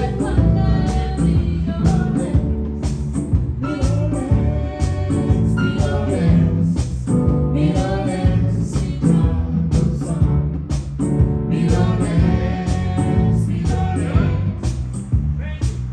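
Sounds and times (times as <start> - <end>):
bass: 0.0 - 15.9
steady drum beat: 0.0 - 15.9.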